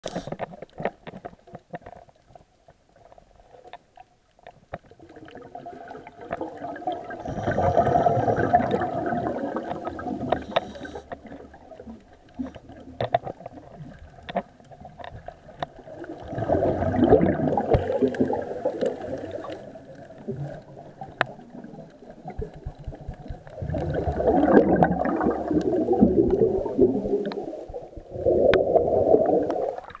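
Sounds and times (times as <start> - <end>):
underwater bubbling: 0.0 - 30.0
underwater clicks and crackles: 0.0 - 30.0.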